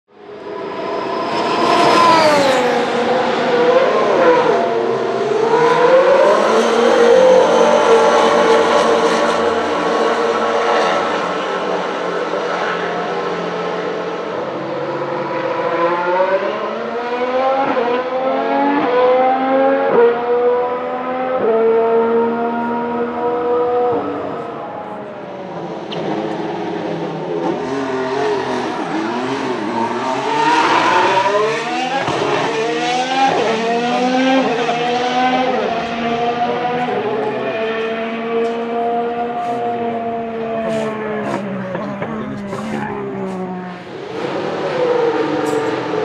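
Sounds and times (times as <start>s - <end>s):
racing car engine accelerating: 0.2s - 46.0s.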